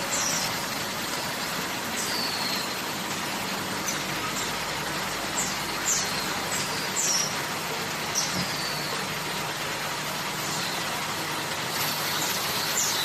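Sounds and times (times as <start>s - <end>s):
machinery noise: 0.0s - 13.0s.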